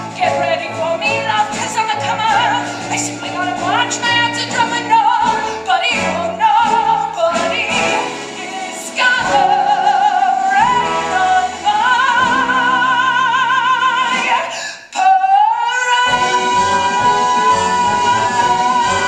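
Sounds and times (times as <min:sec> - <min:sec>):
musical accompaniment: 0:00.0 - 0:19.0
woman singing with vibrato: 0:00.0 - 0:19.0.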